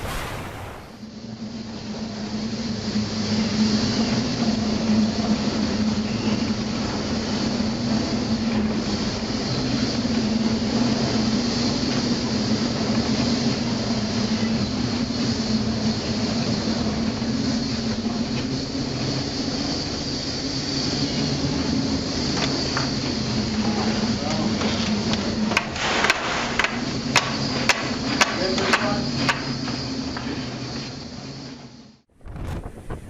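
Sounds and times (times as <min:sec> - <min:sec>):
mechanical drone with hum and hiss: 0:00.0 - 0:33.0.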